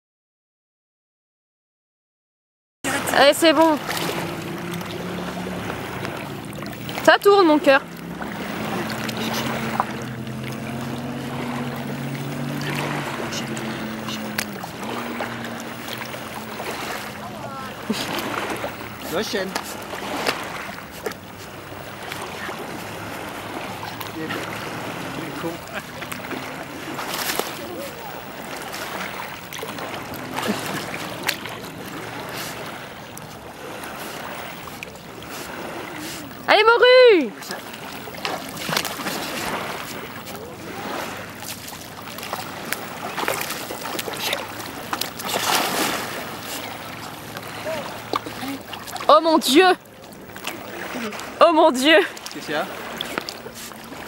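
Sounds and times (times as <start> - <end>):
motorboat engine droning: 2.9 - 54.0
water sloshing and splashing: 2.9 - 54.0.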